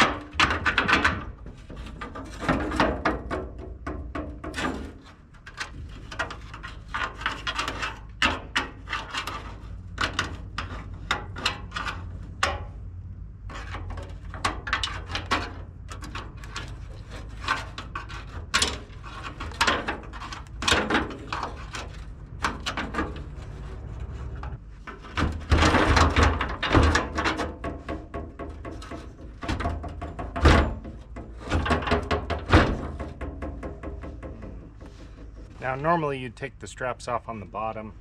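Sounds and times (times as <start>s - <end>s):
metallic clanks and scraping: 0.0s - 36.2s.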